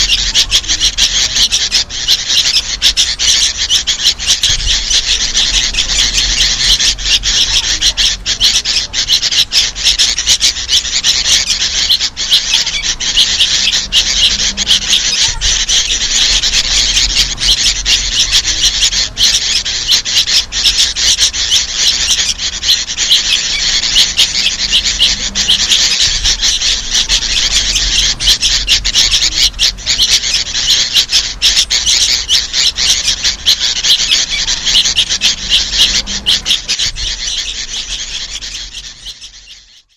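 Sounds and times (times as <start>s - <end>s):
bulbuls chattering: 0.0s - 39.9s
young birds begging calls: 0.0s - 39.9s.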